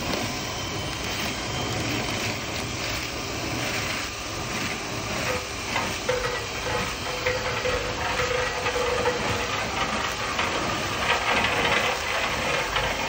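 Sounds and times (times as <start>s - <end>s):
drill motor whine: 0.0s - 13.0s
brush rod scraping inside duct: 1.0s - 13.0s.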